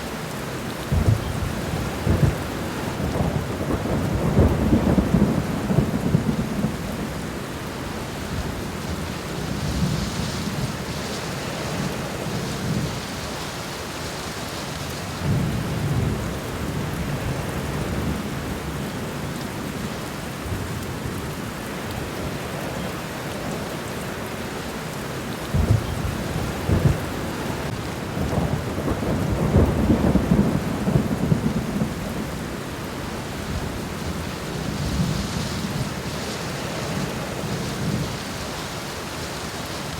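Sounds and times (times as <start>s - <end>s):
rain falling on plants: 0.0s - 39.9s.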